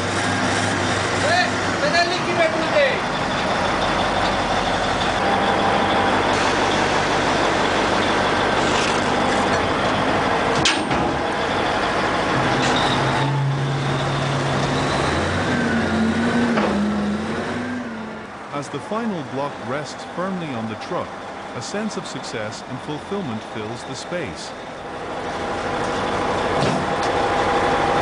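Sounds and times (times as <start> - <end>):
heavy machine diesel engine running: 0.0 - 28.0.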